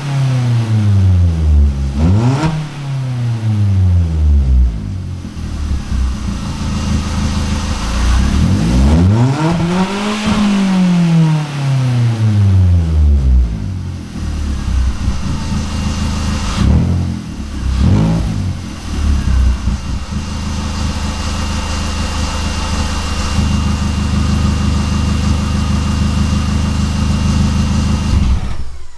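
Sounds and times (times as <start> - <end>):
car engine revving and idling: 0.0 - 28.9.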